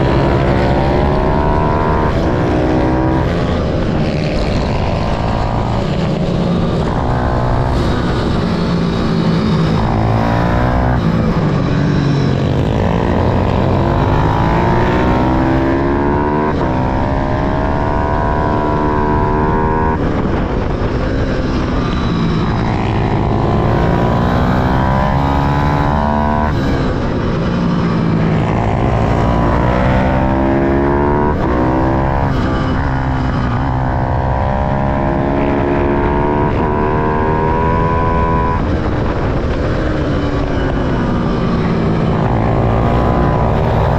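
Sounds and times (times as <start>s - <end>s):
motorcycle engines accelerating: 0.0s - 43.9s.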